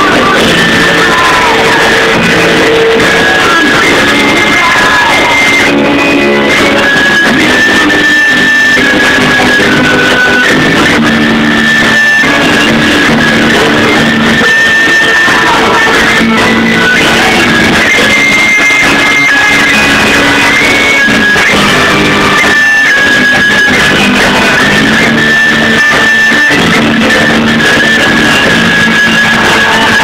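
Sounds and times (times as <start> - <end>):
electric guitar lead melody: 0.0 - 30.0
rock band playing live: 0.0 - 30.0.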